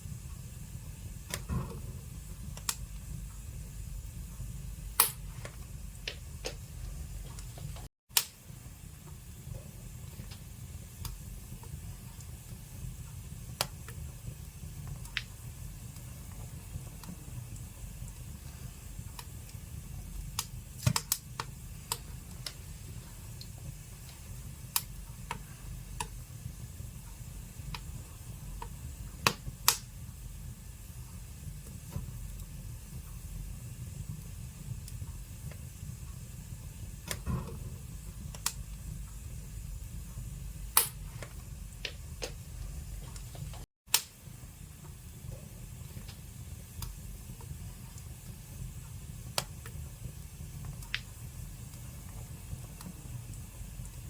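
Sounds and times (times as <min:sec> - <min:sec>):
fire crackles and pops: 0:00.0 - 0:54.0
wood fire rumbling: 0:00.0 - 0:54.0.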